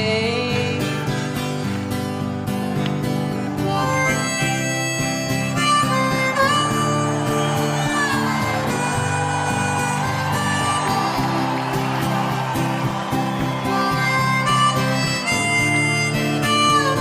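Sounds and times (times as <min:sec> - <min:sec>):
guitar accompaniment: 0:00.0 - 0:17.0
harmonica playing: 0:03.1 - 0:17.0.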